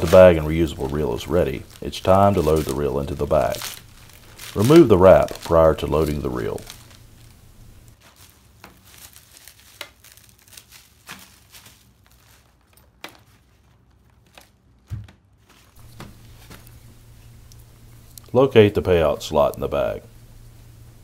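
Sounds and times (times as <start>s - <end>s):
plastic wrap crinkling: 0.0s - 21.0s.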